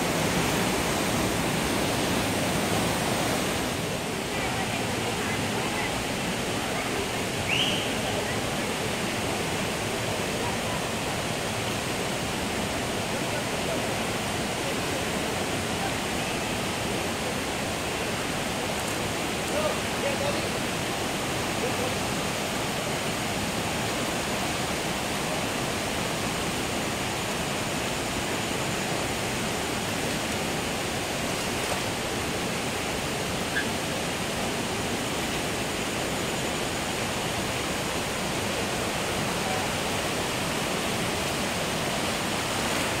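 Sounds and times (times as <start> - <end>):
stream rushing: 0.0 - 43.0.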